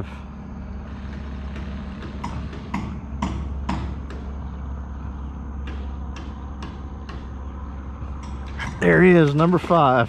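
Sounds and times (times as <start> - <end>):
steady low rumble: 1.8 - 10.0.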